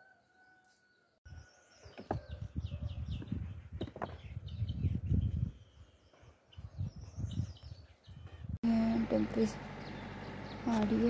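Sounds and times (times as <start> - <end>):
birds chirping: 1.3 - 11.0.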